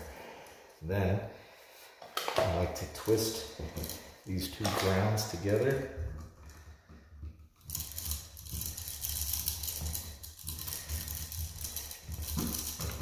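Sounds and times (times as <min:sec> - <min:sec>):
copper wires scraping and rattling: 0:02.5 - 0:13.0.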